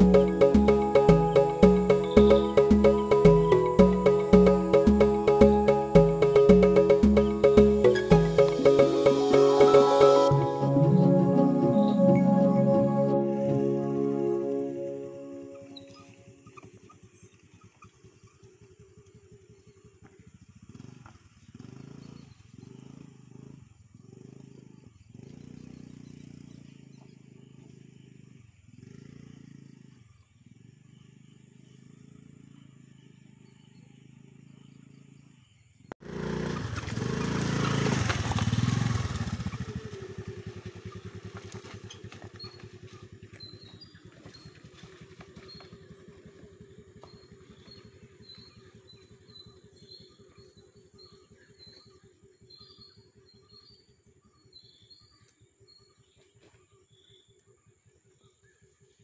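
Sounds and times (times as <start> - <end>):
scooter engine revving: 0.0 - 13.6, 15.8 - 34.9, 36.0 - 54.5
faint birds chirping: 0.0 - 36.0, 39.0 - 59.0.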